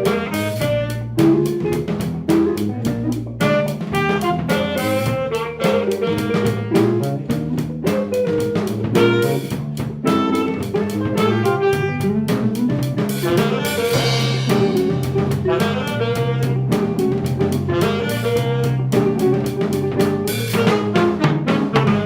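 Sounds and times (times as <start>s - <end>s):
saxophone and brass lines: 0.0s - 1.9s, 3.4s - 12.5s, 13.1s - 22.0s
drum kit beat: 0.0s - 22.0s
low bass notes: 0.0s - 22.0s.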